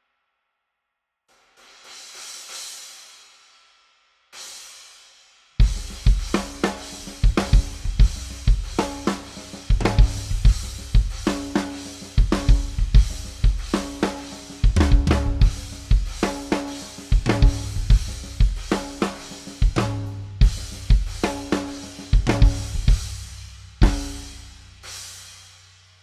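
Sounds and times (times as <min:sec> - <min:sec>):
drum kit groove: 0:04.4 - 0:26.0.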